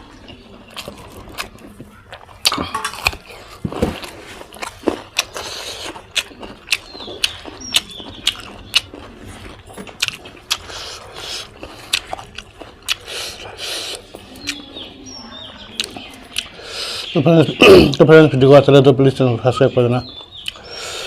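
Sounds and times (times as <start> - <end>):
person chewing with wet smacks: 0.1 - 17.2, 20.0 - 21.0.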